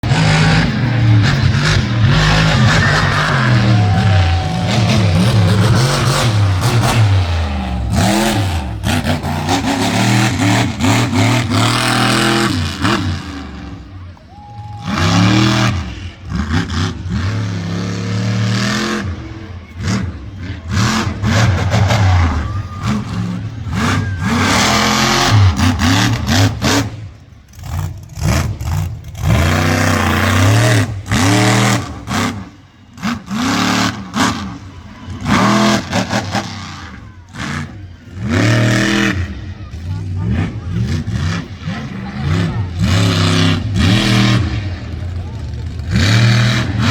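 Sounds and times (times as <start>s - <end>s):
car engines revving: 0.0s - 46.9s.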